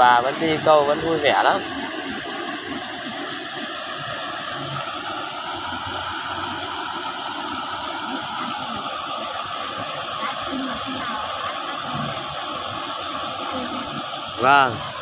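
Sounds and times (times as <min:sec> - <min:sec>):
river rushing over weir: 0:00.0 - 0:15.0.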